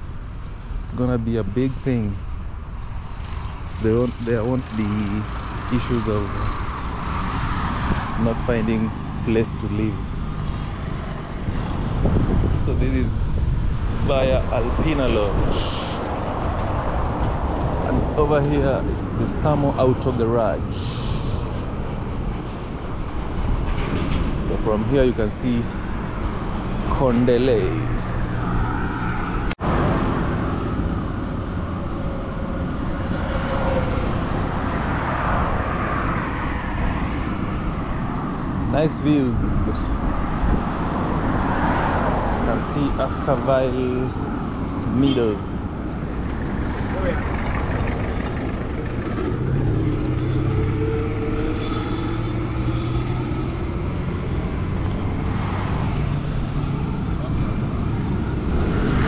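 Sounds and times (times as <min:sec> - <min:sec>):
road traffic noise: 0:00.0 - 0:59.0
passing vehicle engine hum: 0:01.5 - 0:59.0.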